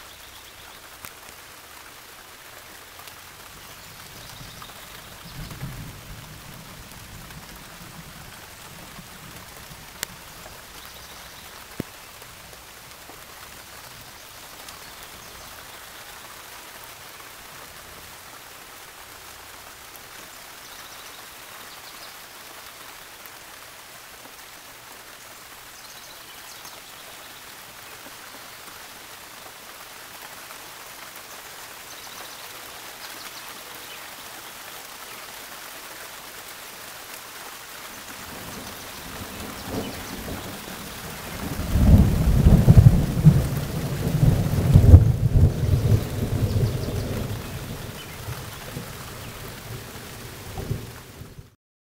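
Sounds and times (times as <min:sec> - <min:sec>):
steady rain: 0:00.0 - 0:51.6.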